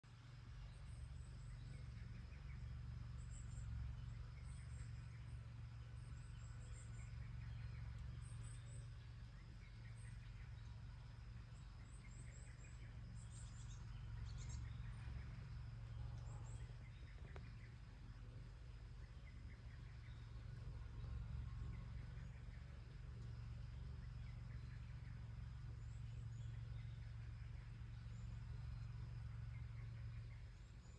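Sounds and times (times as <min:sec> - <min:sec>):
low rumble: 0:00.1 - 0:30.9.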